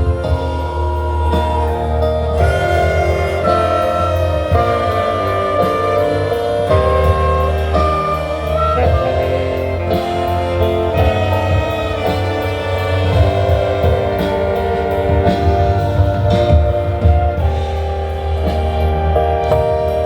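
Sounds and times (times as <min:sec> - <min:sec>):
bass line: 0:00.0 - 0:20.0
held melody notes: 0:00.0 - 0:20.0.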